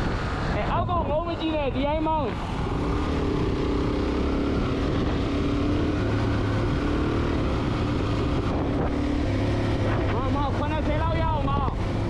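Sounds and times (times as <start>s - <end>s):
wind rushing over microphone: 0.0s - 12.0s
motorcycle engine cruising: 2.3s - 12.0s.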